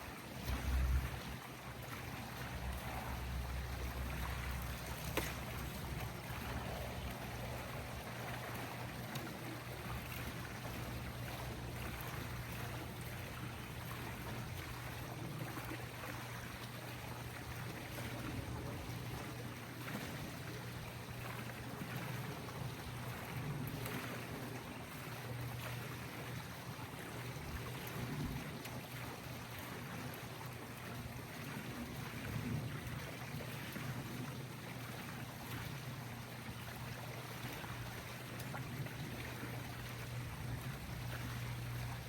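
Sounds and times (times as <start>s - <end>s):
flowing water: 0.0s - 42.0s
low machine hum: 0.0s - 42.0s.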